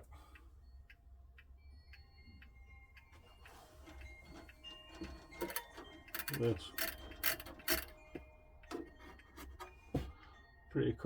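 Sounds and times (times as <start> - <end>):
mechanical clock ticking: 0.0 - 10.5.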